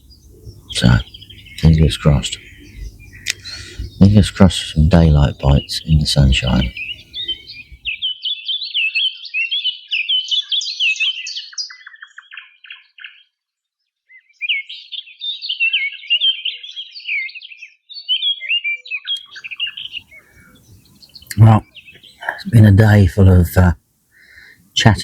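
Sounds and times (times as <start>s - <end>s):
songbird twittering song: 0.0s - 25.0s.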